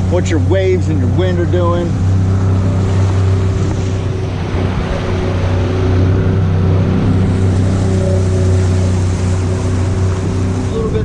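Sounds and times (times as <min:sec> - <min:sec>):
outboard motor running: 0:00.0 - 0:11.0
water slapping against hull: 0:00.0 - 0:11.0
wind noise: 0:01.9 - 0:11.0.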